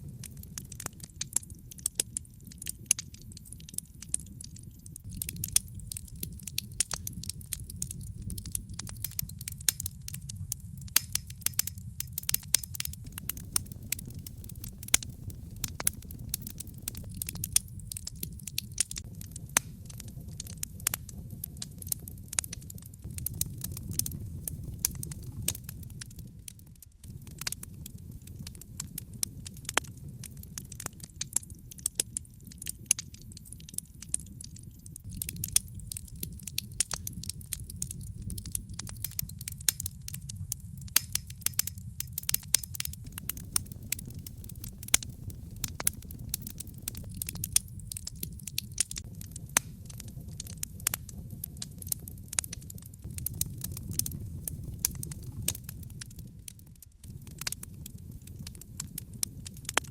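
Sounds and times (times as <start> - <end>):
fire low rumble: 0.0 - 59.9
logs crackling and popping: 0.0 - 59.9.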